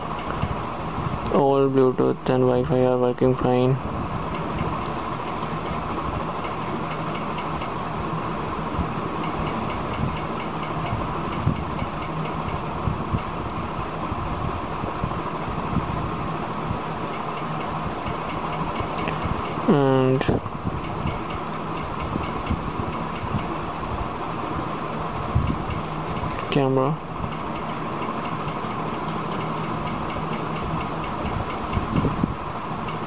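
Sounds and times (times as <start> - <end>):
background hum and hiss: 0.0 - 33.0.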